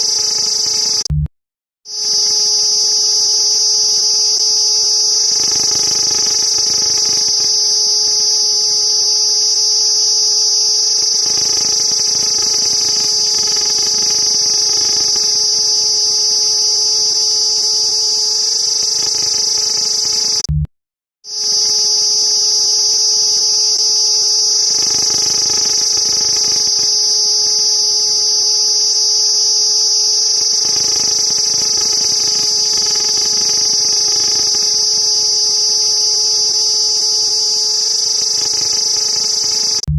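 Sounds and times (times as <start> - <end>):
cicadas buzzing: 2.0 - 20.4, 21.4 - 39.8.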